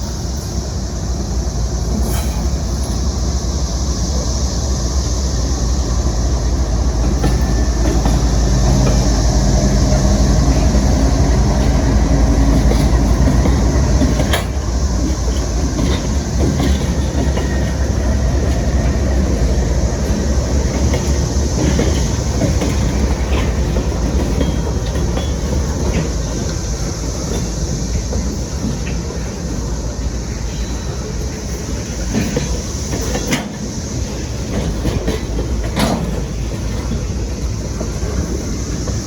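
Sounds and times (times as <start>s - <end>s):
cicadas droning: 0.0s - 39.0s
freight train rolling past: 0.0s - 39.0s
wheels clicking over rail joints: 6.6s - 39.0s.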